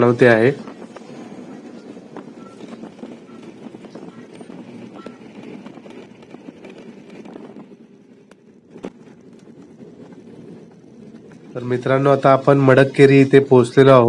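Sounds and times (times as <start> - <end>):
car engine and tyres rumbling: 0.0 - 13.3.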